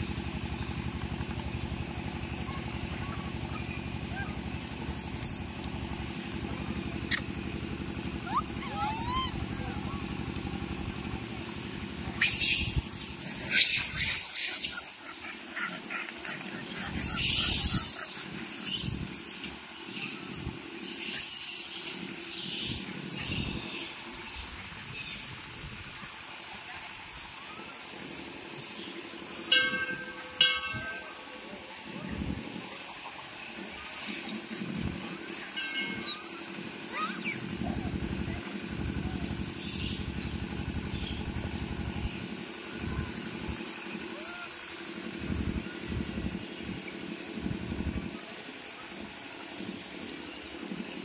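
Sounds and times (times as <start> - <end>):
engine running with low pulse: 0.0 - 51.0.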